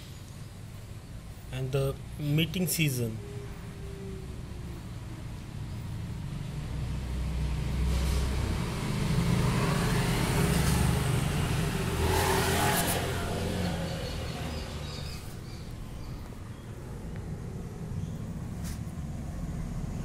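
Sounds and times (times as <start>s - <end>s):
vehicle passing with road noise: 0.0s - 20.0s.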